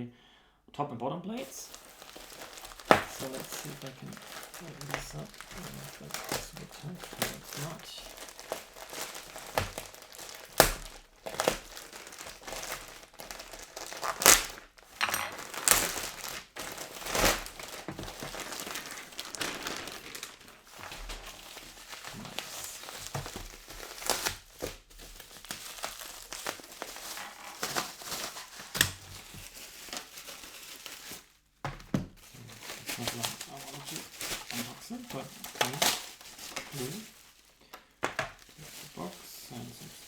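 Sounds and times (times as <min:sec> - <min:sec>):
packaging crinkling and tearing: 0:01.4 - 0:40.0.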